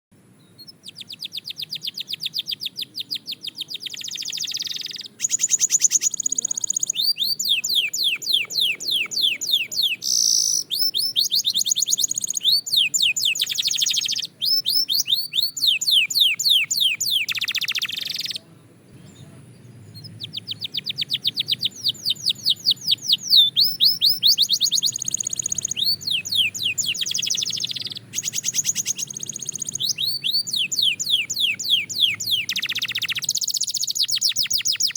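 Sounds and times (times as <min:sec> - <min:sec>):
canary singing in trills: 0:00.4 - 0:34.9.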